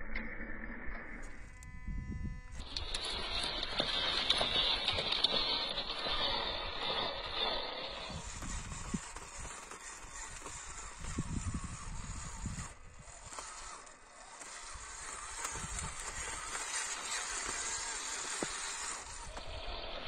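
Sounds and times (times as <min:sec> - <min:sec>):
toy car motor: 0:01.2 - 0:20.0
wind rumbling on microphone: 0:01.3 - 0:13.8, 0:14.5 - 0:20.0
tyres on gravel: 0:02.6 - 0:20.0.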